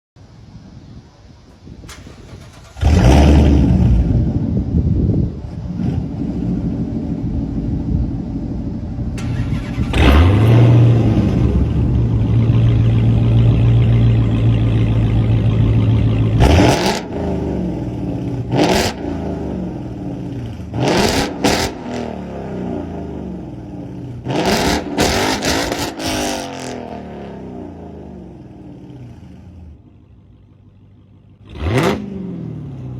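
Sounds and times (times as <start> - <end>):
car engine idling and revving: 1.6 - 32.9.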